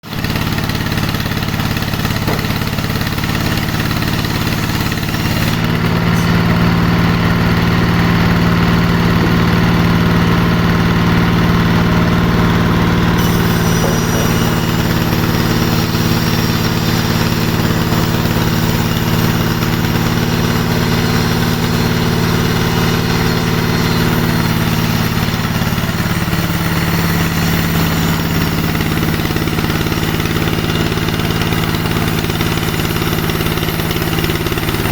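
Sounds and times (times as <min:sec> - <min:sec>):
saw machine engine running: 0:00.0 - 0:34.9.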